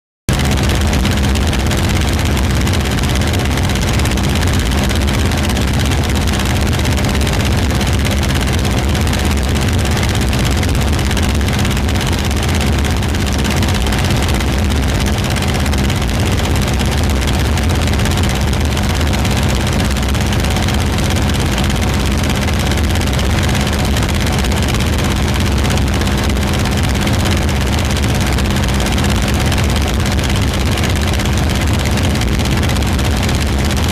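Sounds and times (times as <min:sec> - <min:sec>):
aircraft engine drone: 0:00.3 - 0:33.9
low hum: 0:00.3 - 0:33.9.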